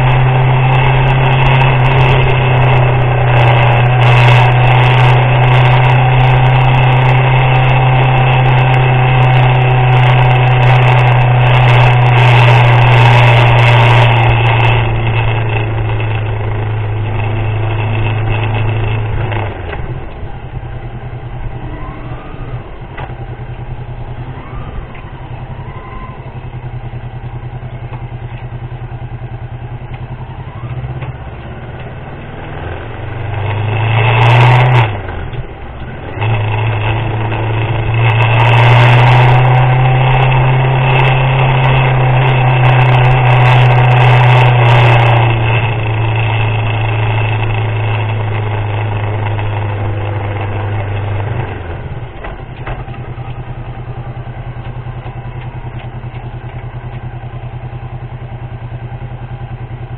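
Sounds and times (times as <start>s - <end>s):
crackling noise: 0.0s - 59.9s
motorcycle engine running: 0.0s - 59.9s.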